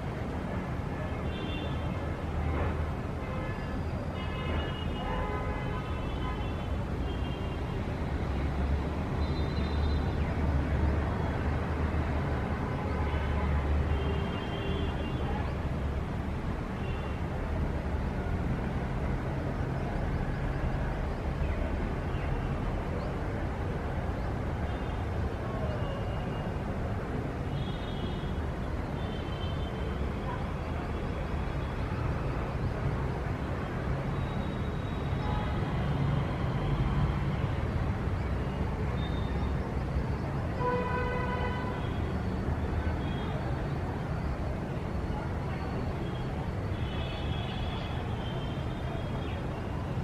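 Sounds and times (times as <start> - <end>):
city traffic rumble: 0.0 - 50.0.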